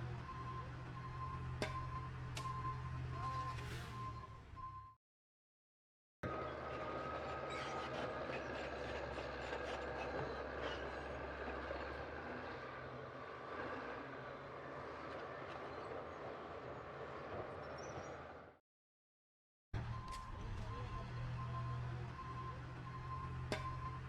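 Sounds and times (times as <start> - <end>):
diesel engine low hum: 0.0 - 5.0, 6.2 - 18.6, 19.8 - 24.0.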